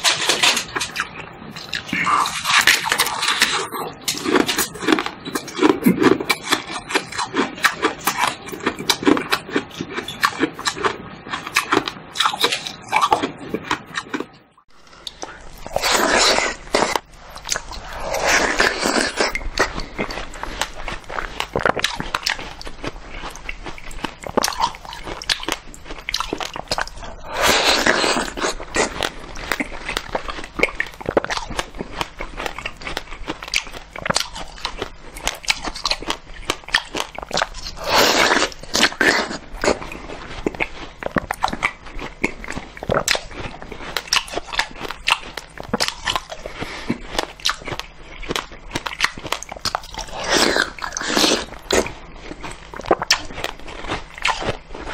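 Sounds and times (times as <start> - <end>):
crackling chewing of ice: 0.0 - 54.9.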